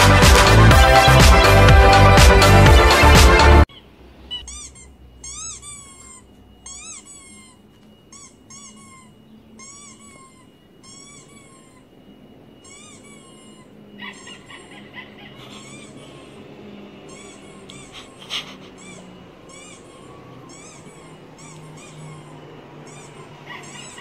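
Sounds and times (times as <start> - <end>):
squeaky toy squeaks: 0.6 - 24.0.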